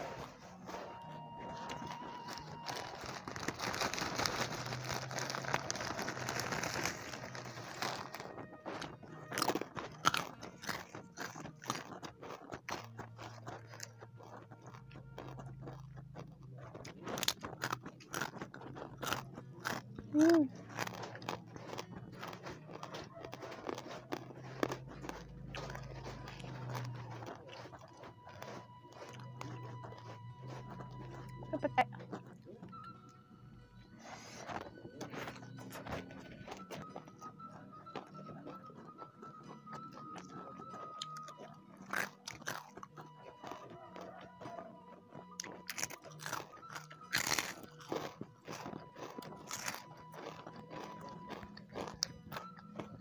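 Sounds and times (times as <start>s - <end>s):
person crunching and chewing: 0.0s - 33.2s, 33.8s - 53.0s.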